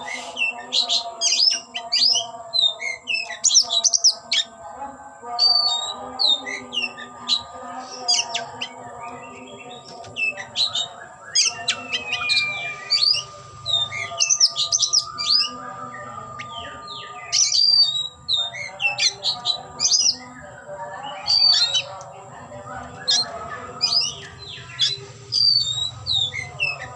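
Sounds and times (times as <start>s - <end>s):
songbird whistling and chattering: 0.0s - 4.5s, 5.4s - 15.6s, 16.2s - 20.2s, 21.1s - 22.0s, 22.8s - 26.9s.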